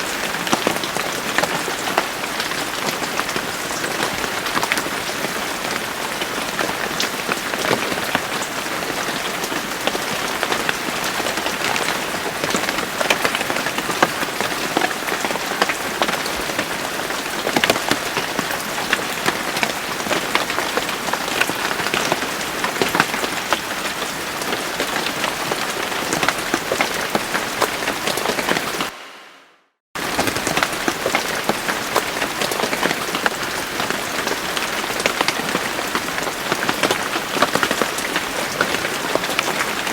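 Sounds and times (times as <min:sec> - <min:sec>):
steady rain falling: 0:00.0 - 0:29.4, 0:30.0 - 0:39.9.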